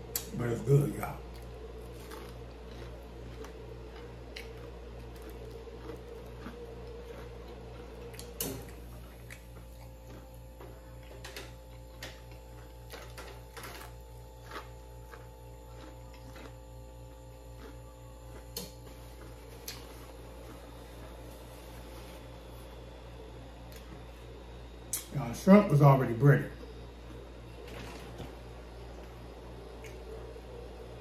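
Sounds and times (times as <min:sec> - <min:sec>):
man chewing crispy food: 0:00.0 - 0:25.5, 0:26.6 - 0:30.8
low hum: 0:00.0 - 0:31.0.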